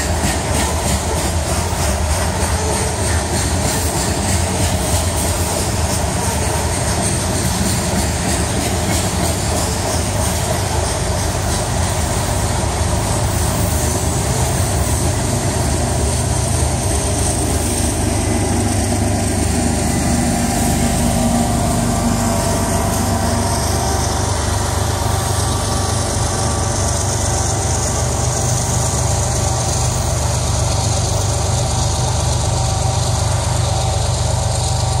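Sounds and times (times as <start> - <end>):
diesel locomotive engine: 0.0 - 35.0
freight cars rolling on rails: 0.0 - 35.0.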